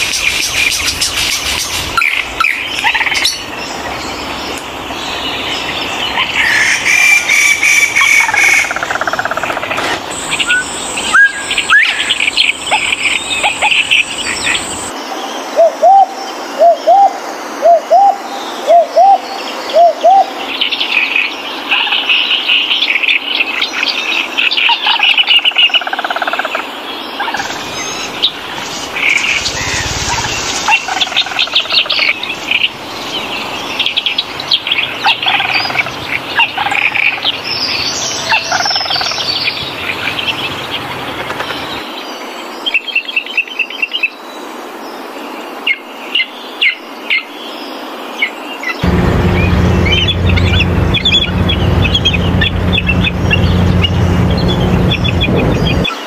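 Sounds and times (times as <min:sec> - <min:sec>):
wild birds chirping and twittering: 0:00.0 - 0:56.0.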